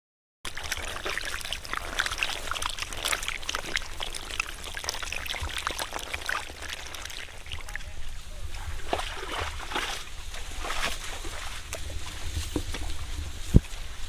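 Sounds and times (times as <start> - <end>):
fish splashing in water: 0.5 - 13.7.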